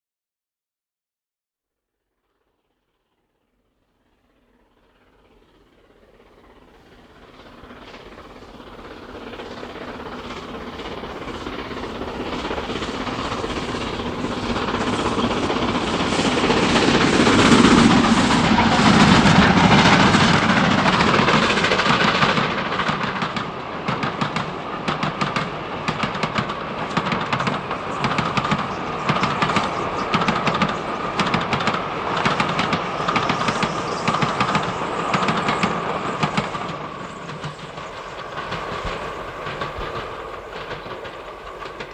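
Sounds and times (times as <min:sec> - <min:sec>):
steam train running: 0:04.0 - 0:41.9
steady whine: 0:04.8 - 0:41.9.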